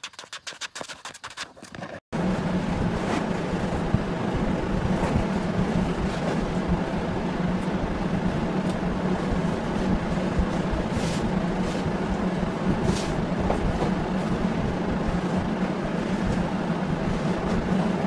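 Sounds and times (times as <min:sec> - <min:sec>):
low drone or hum: 0:02.2 - 0:18.0.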